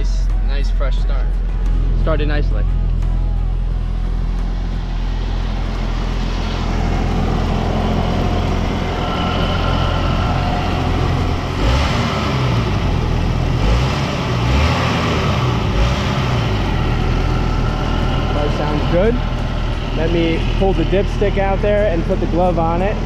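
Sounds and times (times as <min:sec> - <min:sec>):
car engine idling: 0:00.0 - 0:23.0
low bumps: 0:00.0 - 0:23.0.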